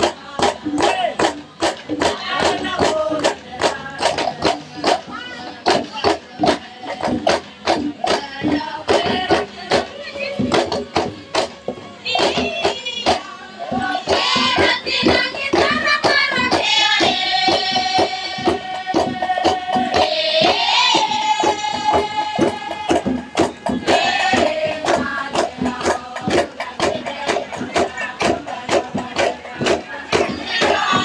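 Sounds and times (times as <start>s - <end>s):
group singing: 0.0s - 31.0s
steady percussion beat: 0.0s - 31.0s.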